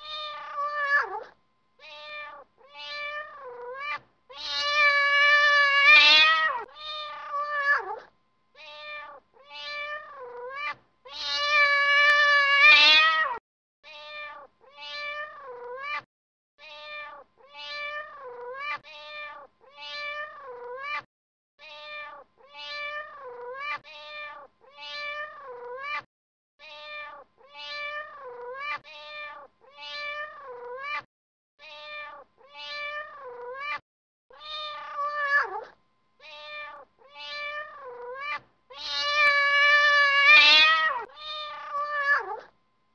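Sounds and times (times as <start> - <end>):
cat meowing: 0.0 - 42.5.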